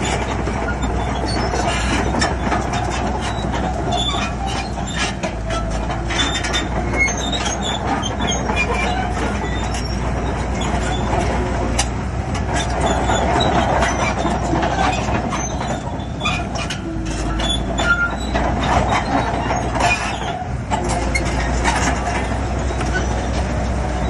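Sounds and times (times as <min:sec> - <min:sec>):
diesel engine hum: 0:00.0 - 0:24.0
steel tracks clanking and squeaking: 0:00.0 - 0:24.0.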